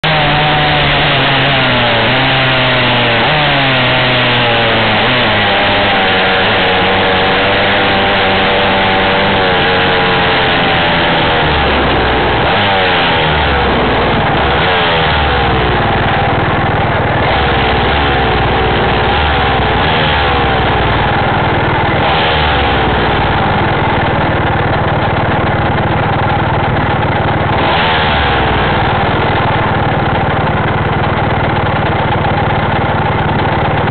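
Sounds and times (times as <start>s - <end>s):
small engine revving: 0.0s - 33.9s.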